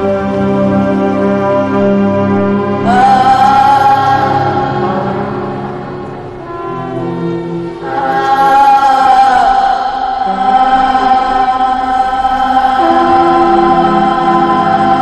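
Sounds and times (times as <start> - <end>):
chant-like voices holding notes: 0.0 - 15.0.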